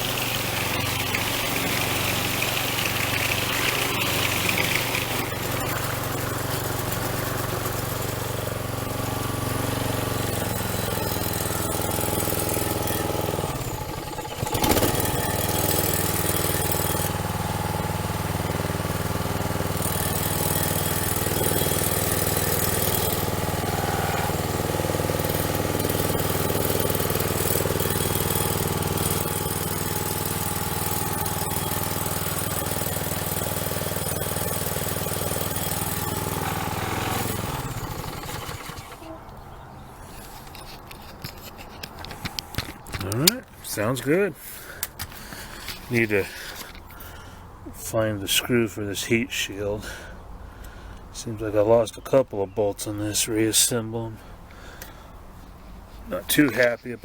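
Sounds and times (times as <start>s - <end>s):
string trimmer engine running: 0.0s - 39.4s, 40.4s - 47.6s, 54.2s - 56.8s.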